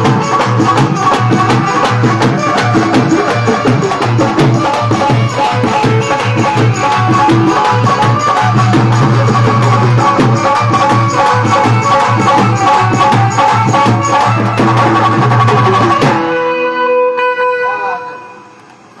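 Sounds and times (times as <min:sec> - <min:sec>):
fast hand drum rhythm: 0:00.0 - 0:16.2.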